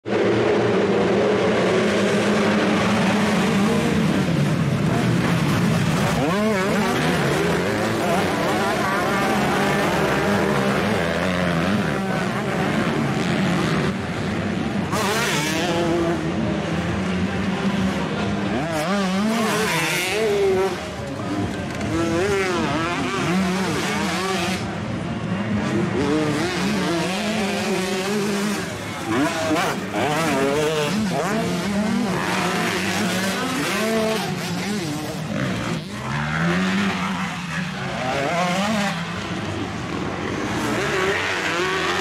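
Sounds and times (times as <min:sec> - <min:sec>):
dirt bike engines revving: 0:00.1 - 0:42.0.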